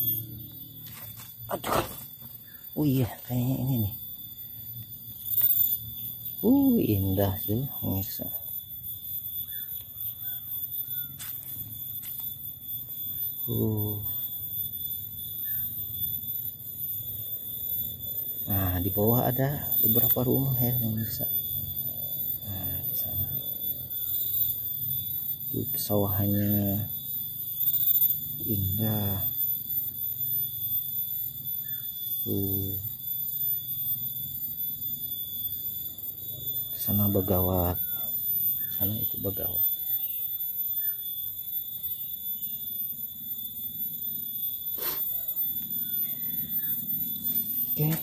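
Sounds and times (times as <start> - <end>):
insect chorus: 0.0 - 48.0.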